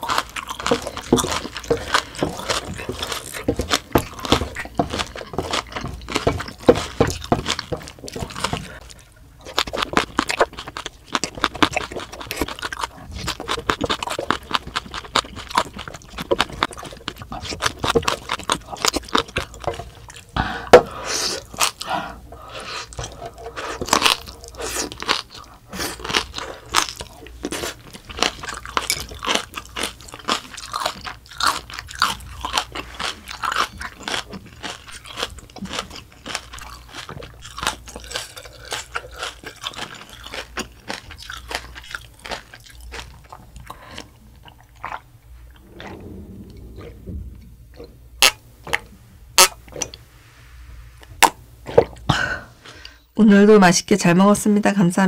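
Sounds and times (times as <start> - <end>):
chewing and crunching: 0.0 - 20.4, 21.2 - 47.0.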